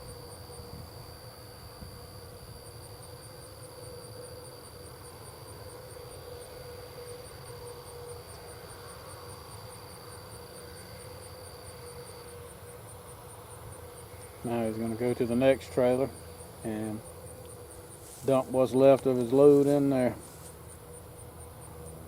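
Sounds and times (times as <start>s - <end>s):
distant machinery rumble: 0.0s - 22.0s
high insect buzz: 0.0s - 22.0s
insects chirping: 0.0s - 22.0s.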